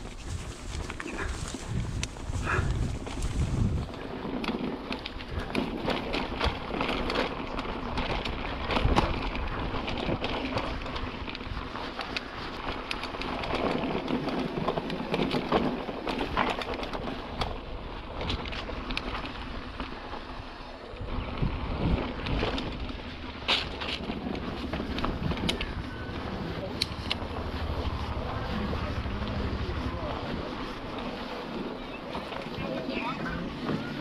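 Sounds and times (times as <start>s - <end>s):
bike clicks and rattles: 0.0s - 34.0s
bike tyres rolling on trail: 0.0s - 34.0s
wind: 0.0s - 34.0s.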